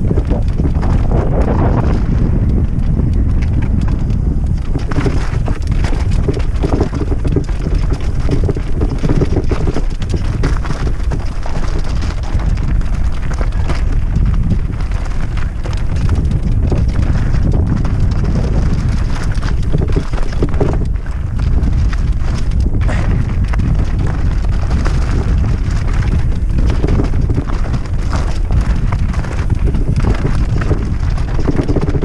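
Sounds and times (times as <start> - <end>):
bike rattling: 0.0 - 32.0
tyres crunching over gravel: 0.0 - 32.0
wind buffeting microphone: 0.0 - 32.0.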